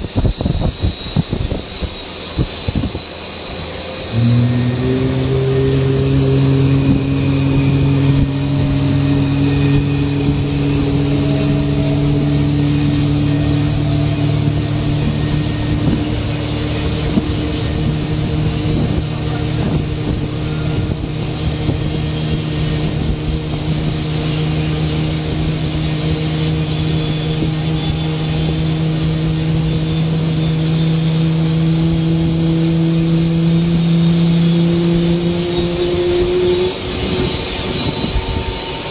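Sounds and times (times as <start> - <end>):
aircraft engine humming: 0.0 - 38.9.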